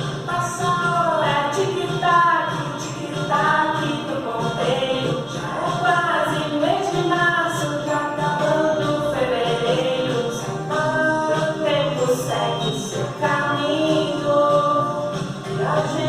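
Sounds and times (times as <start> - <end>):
children's song singing: 0.0 - 16.0
musical backing: 0.0 - 16.0.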